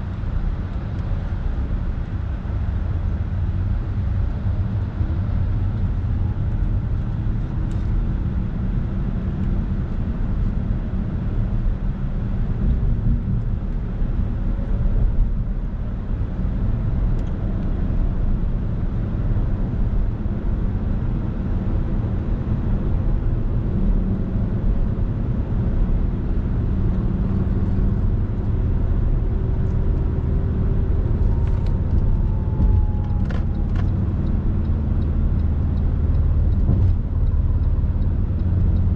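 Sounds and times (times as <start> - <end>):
road and tyre noise in car: 0.0 - 38.9.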